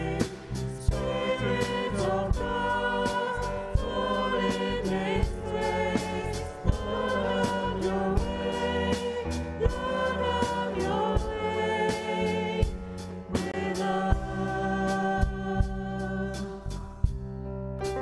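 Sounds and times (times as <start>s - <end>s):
women singing: 0.0s - 16.7s
bass guitar: 0.0s - 18.0s
drum kit beat: 0.0s - 18.0s
electric piano: 0.0s - 18.0s.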